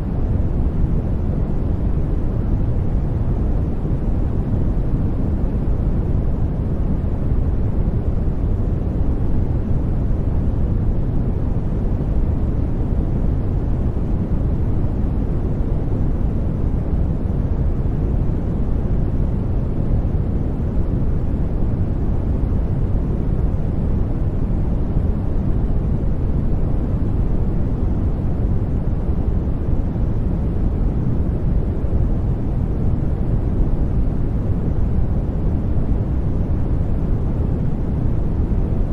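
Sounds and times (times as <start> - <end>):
deep brown noise rumble: 0.0 - 38.9.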